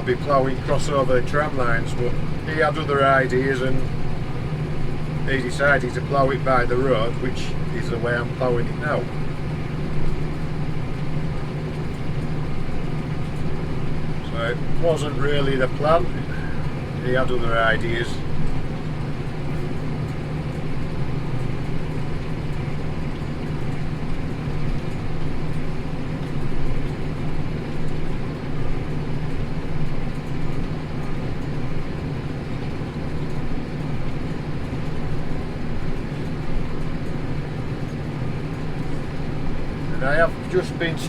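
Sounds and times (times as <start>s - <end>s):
tractor engine droning: 0.0s - 41.0s.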